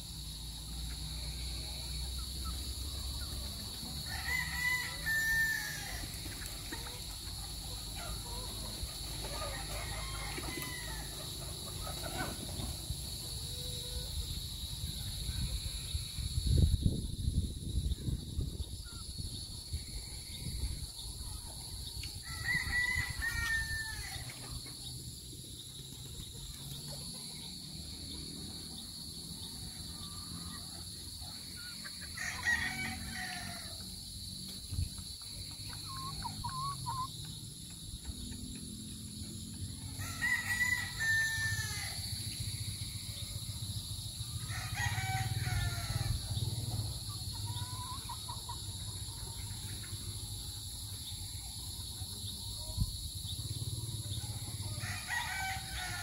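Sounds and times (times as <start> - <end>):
roosters crowing: 0.9 - 16.1, 21.8 - 24.9, 26.5 - 34.3, 35.4 - 52.3, 53.0 - 56.0.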